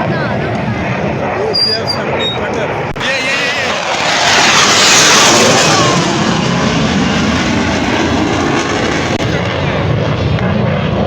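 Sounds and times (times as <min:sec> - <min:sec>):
jet aircraft roaring past: 0:00.0 - 0:11.0.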